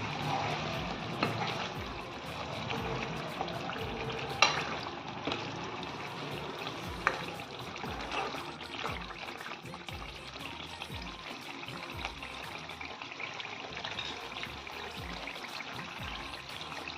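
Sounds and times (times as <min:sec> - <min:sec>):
music with low thumping beat: 0:00.0 - 0:04.8, 0:05.9 - 0:12.9, 0:14.2 - 0:16.9
food cooking hiss: 0:00.0 - 0:16.9.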